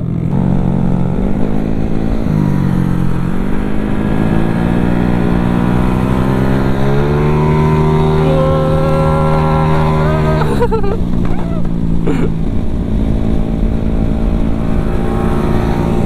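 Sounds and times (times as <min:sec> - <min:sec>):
scooter engine accelerating: 0:00.0 - 0:16.0
wind on microphone: 0:00.3 - 0:16.0.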